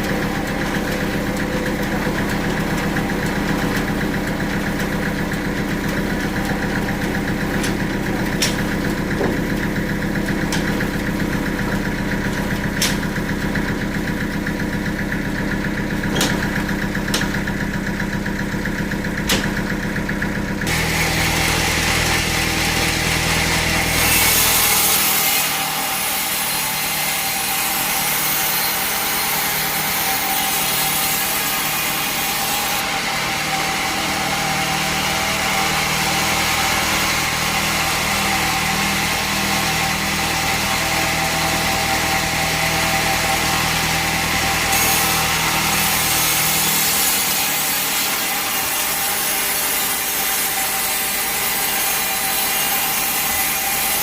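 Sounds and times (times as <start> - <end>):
saw blade rasping through log: 0.0 - 13.7, 20.6 - 54.0
sawmill engine hum: 0.0 - 54.0.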